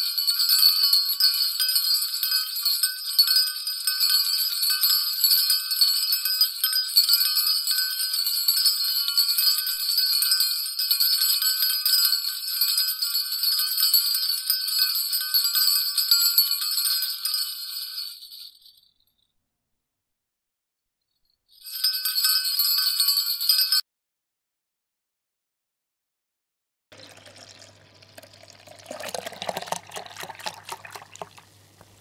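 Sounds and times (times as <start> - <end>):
bells jingling: 0.0 - 19.2, 21.5 - 23.8, 27.0 - 31.3.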